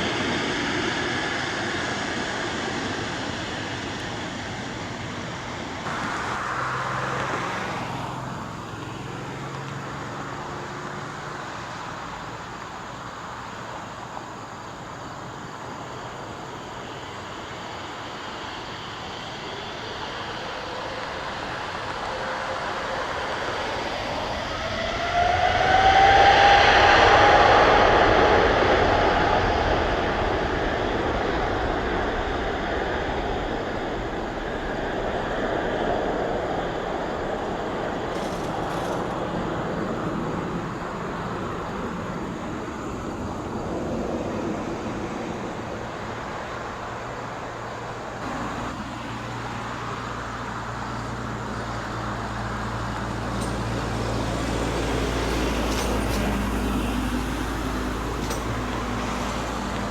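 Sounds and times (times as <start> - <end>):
jet engine whine: 0.0 - 59.9
jet engines roaring at takeoff: 0.0 - 59.9.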